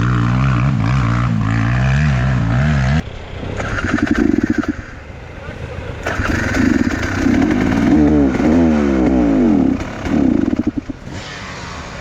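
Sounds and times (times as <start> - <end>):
motorcycle engine revving: 0.0 - 5.2, 5.8 - 12.0.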